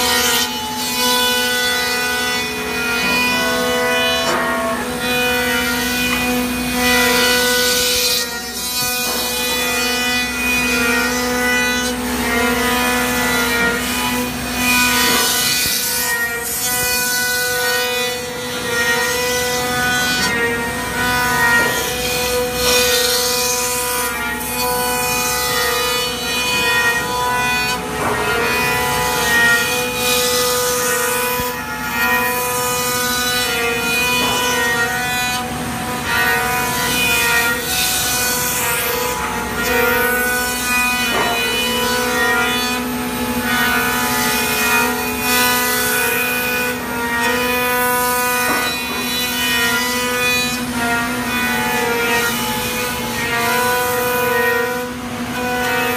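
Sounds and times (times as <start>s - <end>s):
router spindle milling wood: 0.0s - 55.9s.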